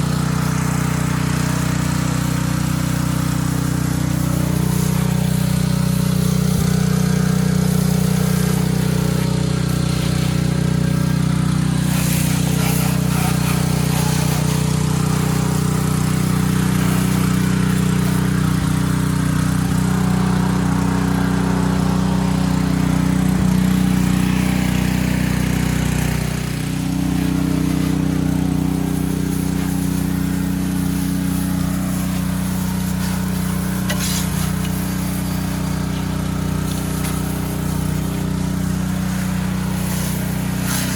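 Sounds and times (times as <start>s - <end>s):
high-pressure spray hissing: 0.0s - 40.9s
pressure washer engine running: 0.0s - 40.9s.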